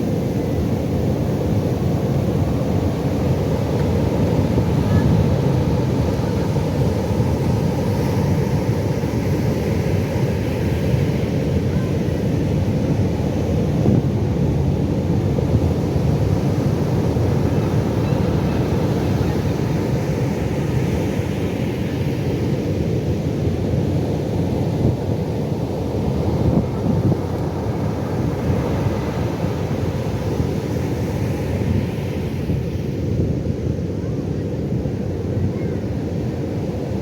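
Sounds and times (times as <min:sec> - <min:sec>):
ocean waves breaking on beach: 0:00.0 - 0:37.0.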